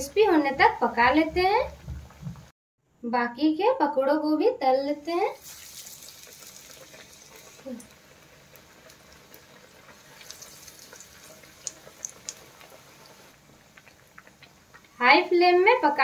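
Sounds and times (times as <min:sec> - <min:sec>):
deep-frying sizzle with pops: 0:00.0 - 0:02.5, 0:05.0 - 0:16.0.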